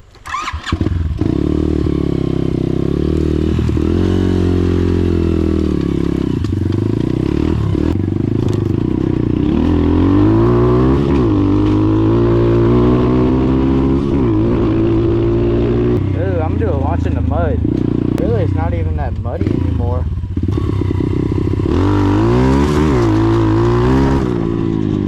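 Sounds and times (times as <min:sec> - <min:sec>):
dirt bike engine running: 0:00.3 - 0:25.0.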